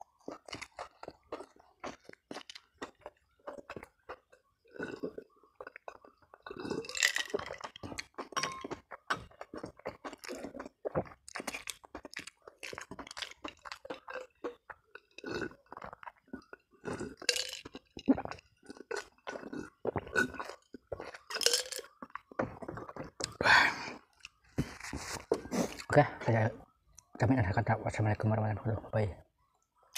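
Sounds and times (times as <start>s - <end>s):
chewing and crunching food: 0.0s - 29.9s.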